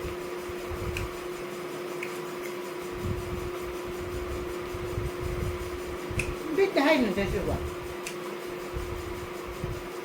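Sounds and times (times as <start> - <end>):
steady even hum: 0.0 - 10.0.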